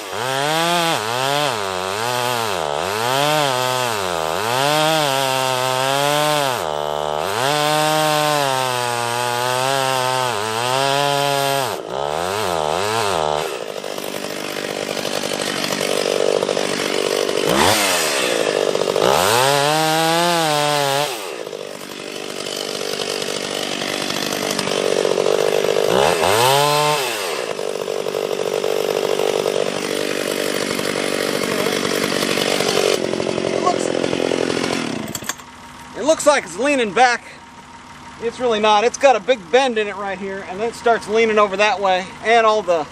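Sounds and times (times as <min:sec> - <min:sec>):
chainsaw cutting tree trunk: 0:00.0 - 0:42.9.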